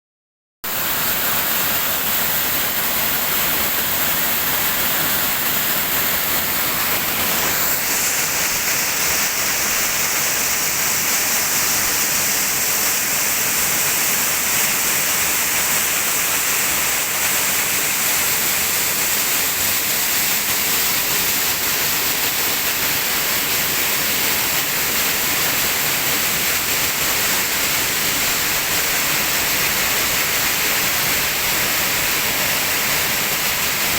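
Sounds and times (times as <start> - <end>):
waterfall rushing: 0.7 - 33.9.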